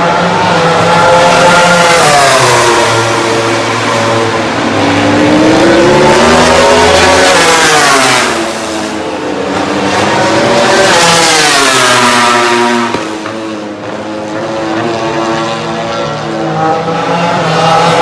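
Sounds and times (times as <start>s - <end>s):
racing motorcycles at high revs: 0.0s - 18.0s.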